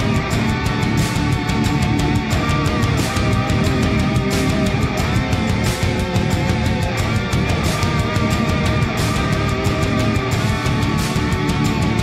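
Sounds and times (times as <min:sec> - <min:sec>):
fast drum beat: 0:00.0 - 0:12.0
heavy metal rock music: 0:00.0 - 0:12.0.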